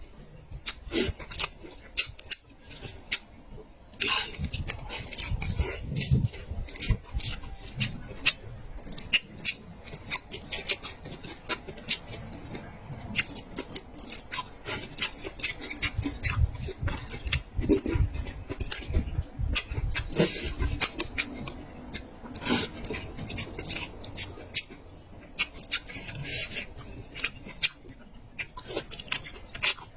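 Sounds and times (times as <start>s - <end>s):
chewing and mouth smacking: 0.5s - 3.3s, 3.9s - 29.9s.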